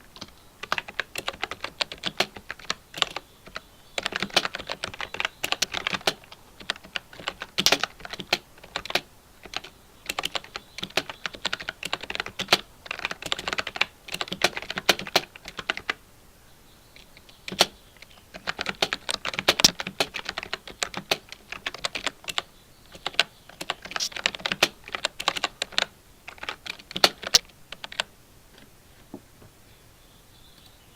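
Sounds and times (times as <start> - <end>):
mechanical keyboard typing: 0.1 - 16.0, 17.0 - 28.7.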